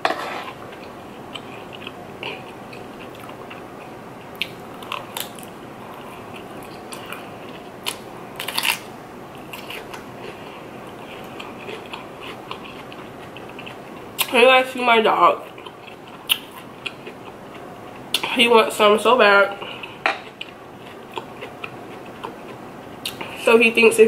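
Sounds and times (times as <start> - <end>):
person chewing: 0.3 - 14.4, 15.4 - 18.4, 19.6 - 23.4.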